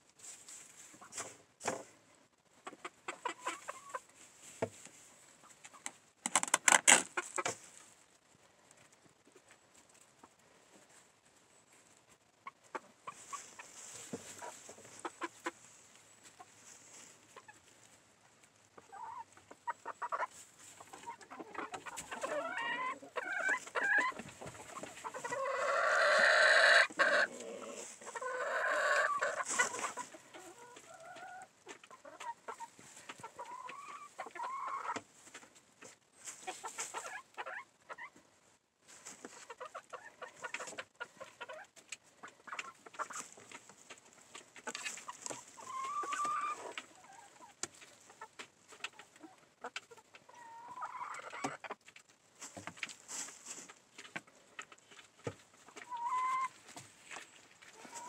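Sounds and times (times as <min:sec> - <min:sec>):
rustle of dry nesting material: 0:00.0 - 0:38.1, 0:38.8 - 0:58.0
chickens clucking: 0:00.2 - 0:58.0.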